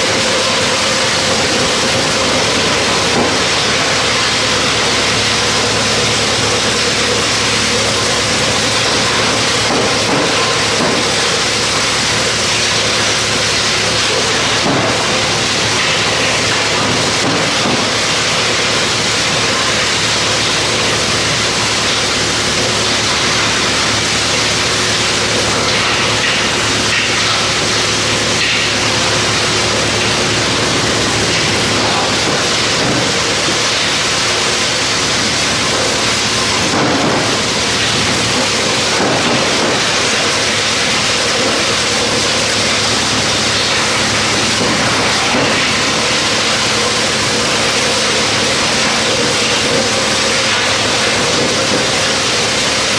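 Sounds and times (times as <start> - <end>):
machine hum: 0.0 - 52.9
wood chipper rushing noise: 0.0 - 52.9.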